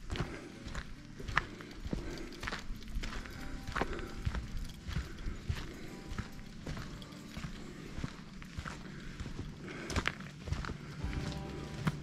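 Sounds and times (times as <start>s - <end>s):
footsteps on gravel: 0.0s - 12.0s.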